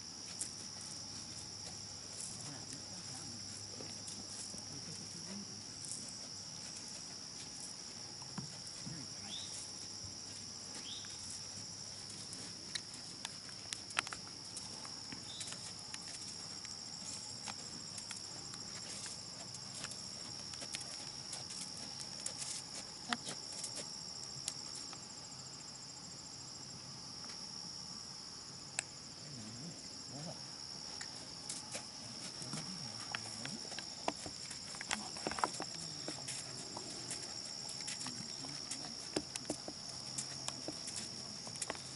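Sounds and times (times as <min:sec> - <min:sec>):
horse hooves on sand: 0:00.0 - 0:25.2, 0:30.7 - 0:41.9
crickets chirring: 0:00.0 - 0:41.9.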